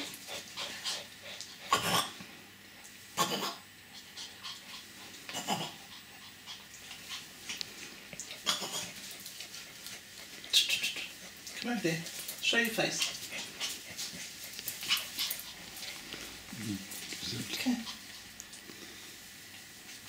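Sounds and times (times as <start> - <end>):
small dog play noises: 0.0 - 20.0.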